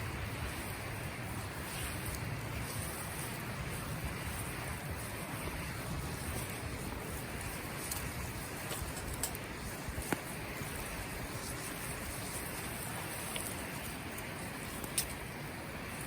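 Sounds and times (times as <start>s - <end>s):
campfire hissing: 0.0s - 16.0s
fire crackles: 0.0s - 16.0s.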